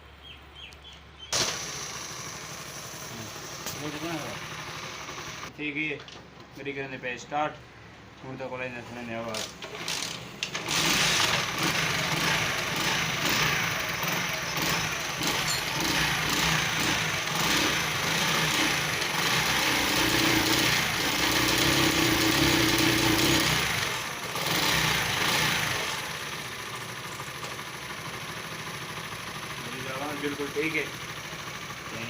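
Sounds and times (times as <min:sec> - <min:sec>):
motorcycle engine revving: 0:01.3 - 0:05.5, 0:09.4 - 0:32.0.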